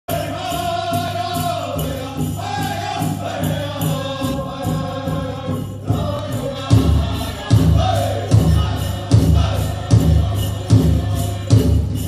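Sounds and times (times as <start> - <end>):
group of singers chanting: 0.1 - 12.0
steady drumbeat: 0.1 - 12.0.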